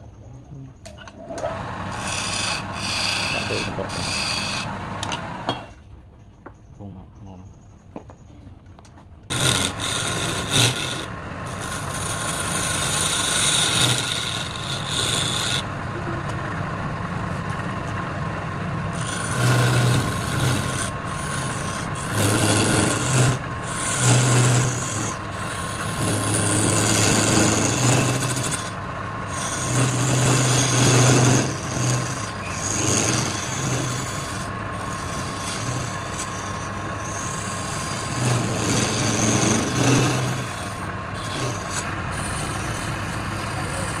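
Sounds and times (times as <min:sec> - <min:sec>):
tool scraping spinning wood: 0:01.2 - 0:05.8, 0:09.3 - 0:44.0
lathe motor hum: 0:01.3 - 0:05.6, 0:09.3 - 0:44.0.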